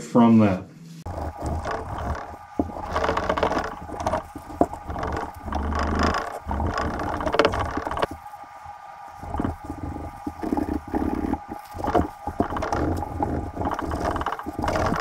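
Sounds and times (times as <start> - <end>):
steel wool scrubbing metal: 1.1 - 8.3, 9.2 - 15.0.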